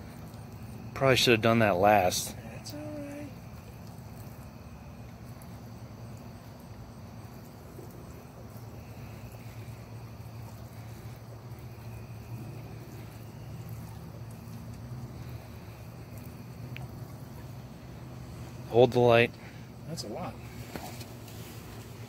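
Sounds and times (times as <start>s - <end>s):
insects trilling: 0.0s - 22.0s
steady low hum: 0.0s - 22.0s.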